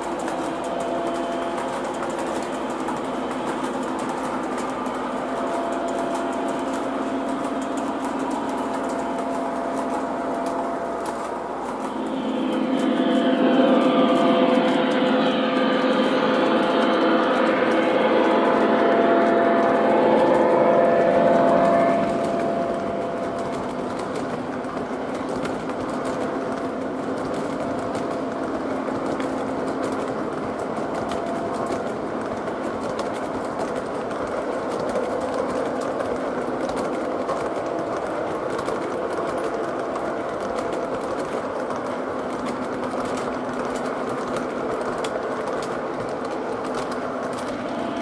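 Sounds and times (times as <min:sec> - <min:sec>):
model train wheels rumbling: 0:00.0 - 0:48.0
wheels clicking over rails: 0:00.0 - 0:48.0.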